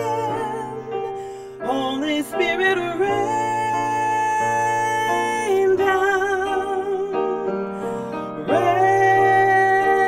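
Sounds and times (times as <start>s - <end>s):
person singing a hymn: 0.0s - 10.0s
piano accompaniment: 0.0s - 10.0s.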